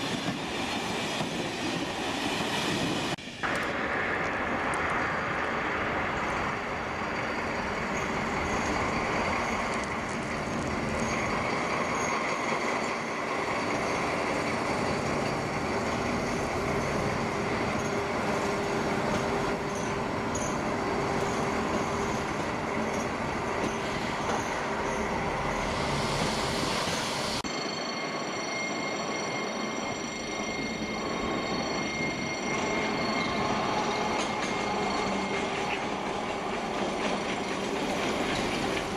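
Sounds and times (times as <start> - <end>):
train rolling on rails: 0.0 - 38.9.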